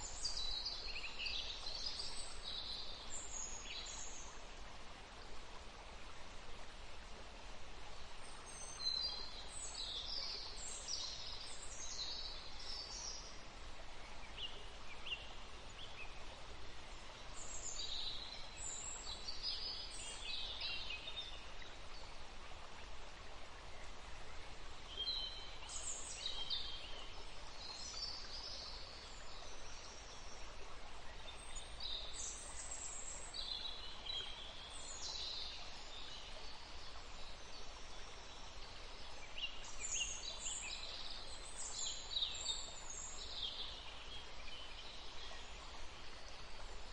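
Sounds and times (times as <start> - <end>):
river water flowing: 0.0 - 46.9.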